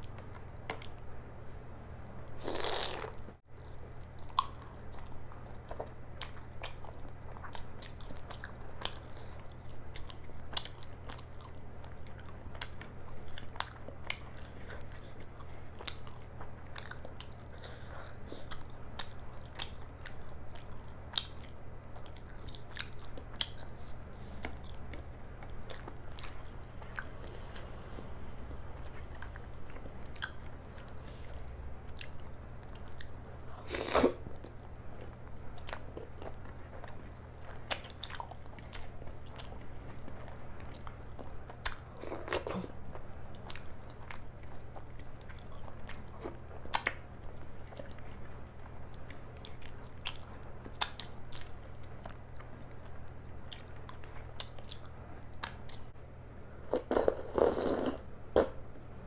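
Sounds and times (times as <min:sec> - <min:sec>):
steady low hum: 0:00.0 - 0:59.0
chewing and crunching: 0:02.0 - 0:55.9.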